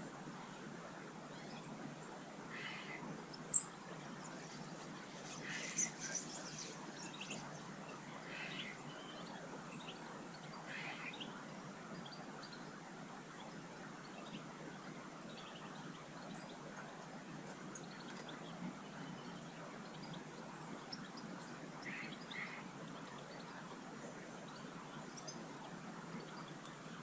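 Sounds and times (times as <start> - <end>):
steady background hiss: 0.0 - 27.0
small birds chirping: 0.4 - 27.0.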